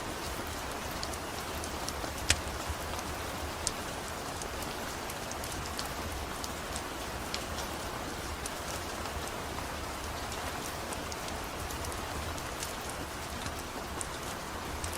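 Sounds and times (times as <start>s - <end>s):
steady rain: 0.0s - 14.9s
wood fire crackling: 0.2s - 14.9s.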